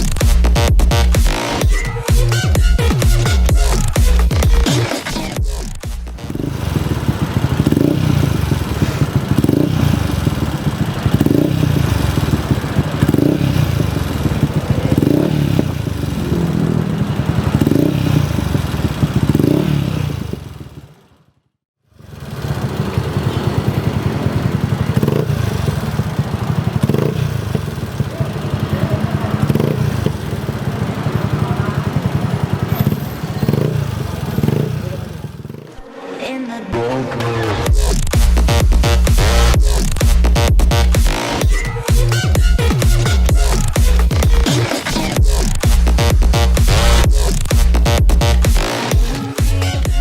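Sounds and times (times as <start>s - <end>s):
motorcycle engine revving: 0.0s - 36.2s, 36.8s - 50.0s.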